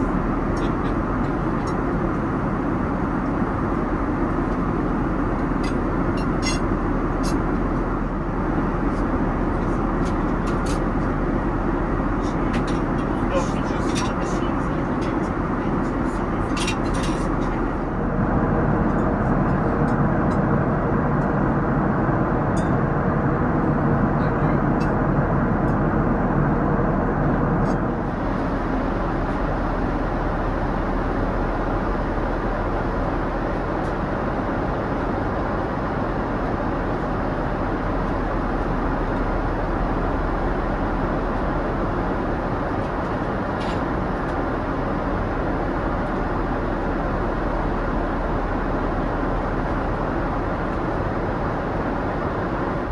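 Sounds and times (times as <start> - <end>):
airliner cabin noise: 0.0 - 52.9.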